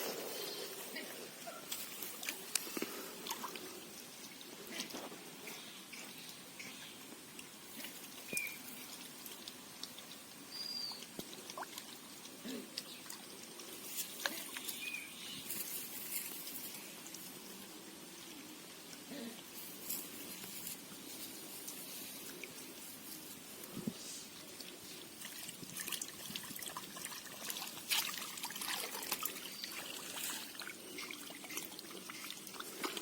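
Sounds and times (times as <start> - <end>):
water trickling and pattering: 0.0 - 33.0.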